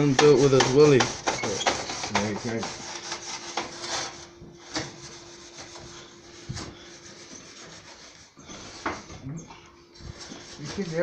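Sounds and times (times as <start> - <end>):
scrubbing oven surface: 0.0 - 11.0.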